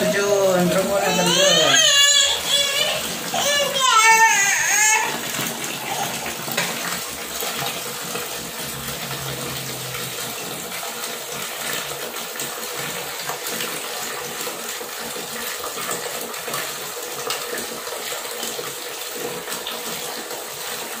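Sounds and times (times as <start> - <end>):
tap water running into a tub: 0.0 - 21.0
water splashing over plastic toys: 0.0 - 21.0.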